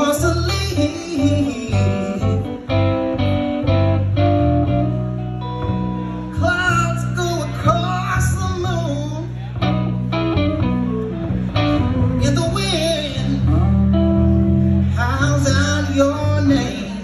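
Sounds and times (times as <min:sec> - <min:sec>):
electric bass: 0:00.0 - 0:17.0
electric guitar notes: 0:00.0 - 0:17.0.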